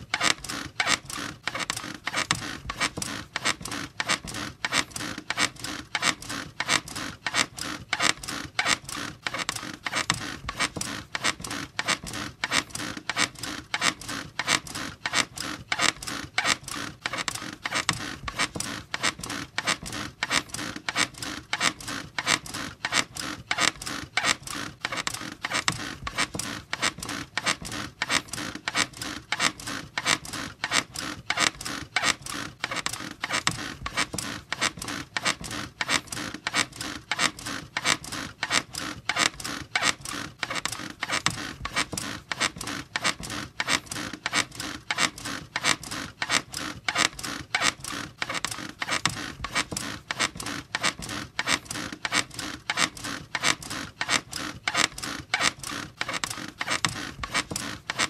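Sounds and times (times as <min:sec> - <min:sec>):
bed squeaking rhythmically: 0:00.0 - 0:58.0.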